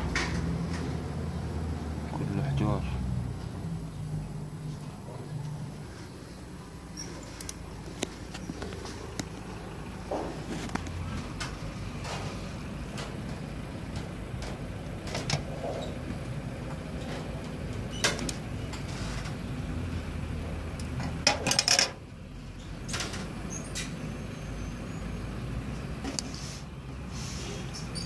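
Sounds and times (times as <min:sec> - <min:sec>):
vehicle engine idling: 0:00.0 - 0:27.8.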